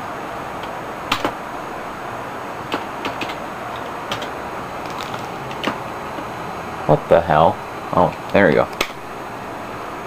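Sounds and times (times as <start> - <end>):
computer fans whirring: 0.0 - 10.0.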